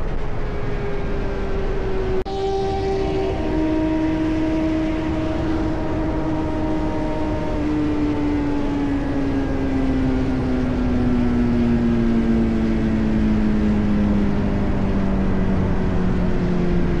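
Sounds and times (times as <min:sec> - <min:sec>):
wind and road noise: 0:00.0 - 0:17.0
motorcycle engine running: 0:00.1 - 0:17.0.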